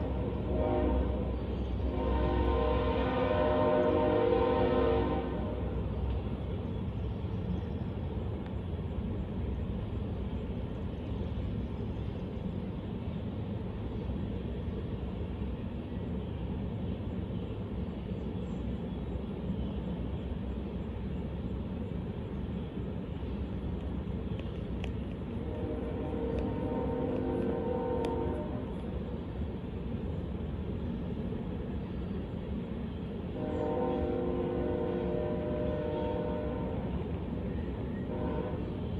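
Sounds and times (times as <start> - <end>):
train rolling past: 0.0 - 38.9.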